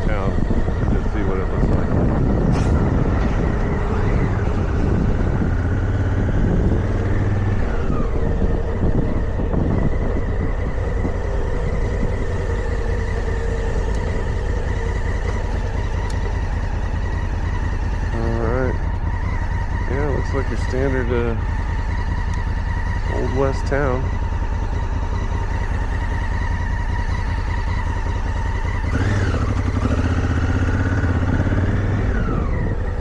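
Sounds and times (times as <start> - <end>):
motorcycle engine running: 0.0 - 33.0
wind rumble on microphone: 0.0 - 33.0.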